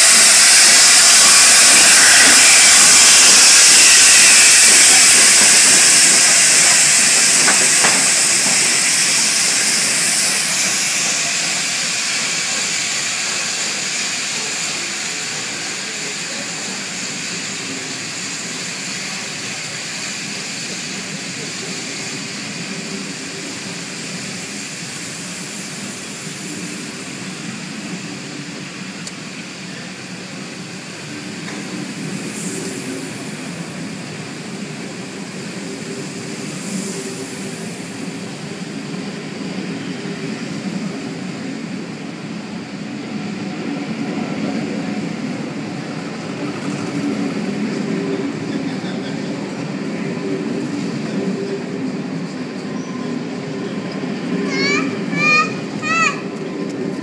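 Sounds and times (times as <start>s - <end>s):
steam locomotive hissing: 0.0s - 57.0s.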